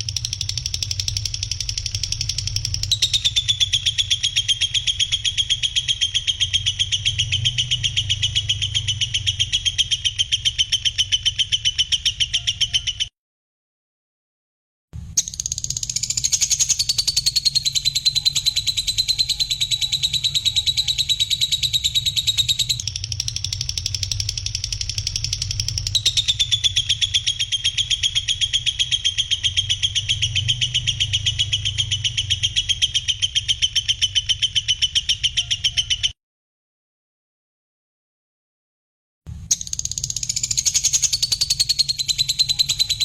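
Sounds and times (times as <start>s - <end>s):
bird trilling: 0.0s - 13.1s, 15.2s - 36.2s, 39.5s - 43.0s.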